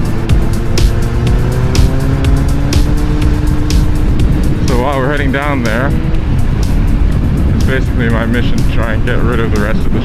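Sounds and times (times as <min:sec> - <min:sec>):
music with regular beat: 0:00.0 - 0:09.7
wind rumble on microphone: 0:00.0 - 0:10.0.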